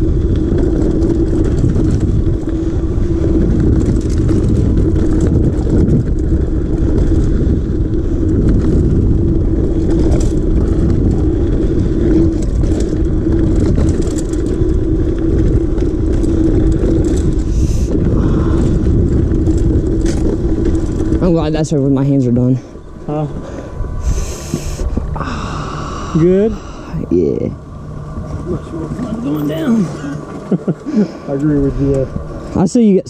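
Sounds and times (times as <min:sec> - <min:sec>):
bike rattling over bumps: 0:00.0 - 0:33.0
steady buzzing tone: 0:00.0 - 0:33.0
wind buffeting microphone: 0:00.0 - 0:33.0.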